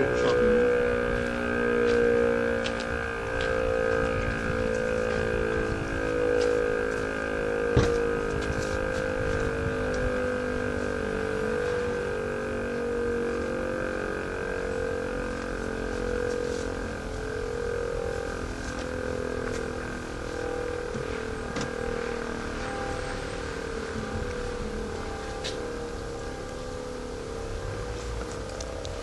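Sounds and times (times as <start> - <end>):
low rumble of wind or traffic: 0.0 - 29.0
rotary siren howling: 0.0 - 29.0.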